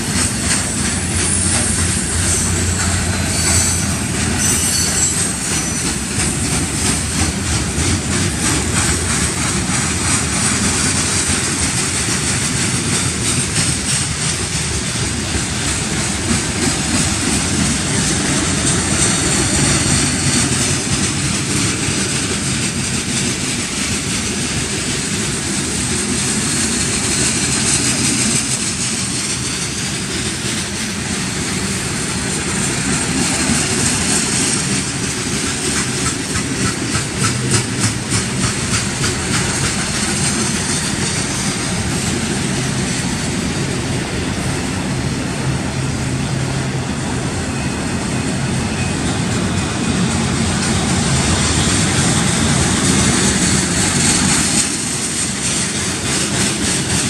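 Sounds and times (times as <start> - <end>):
freight cars rolling past: 0.0 - 57.0.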